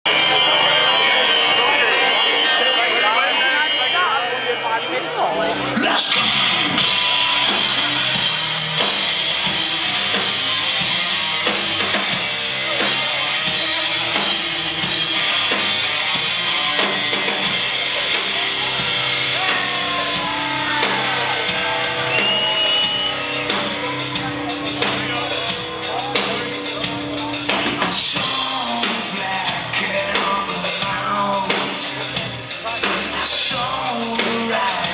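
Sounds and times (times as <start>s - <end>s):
electric guitars: 0.1s - 34.9s
drum kit: 5.2s - 34.9s.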